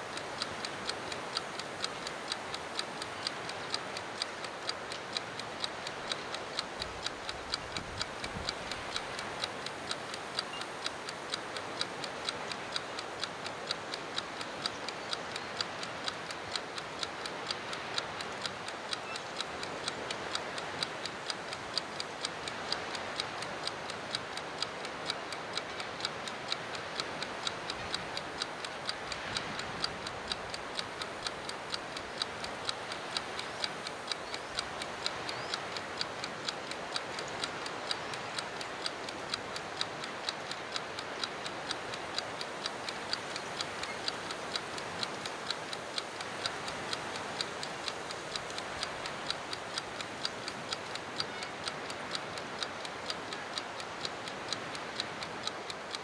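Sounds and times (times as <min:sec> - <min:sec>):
clockwork timer ticking fast: 0:00.0 - 0:56.0
steady hiss: 0:00.0 - 0:56.0.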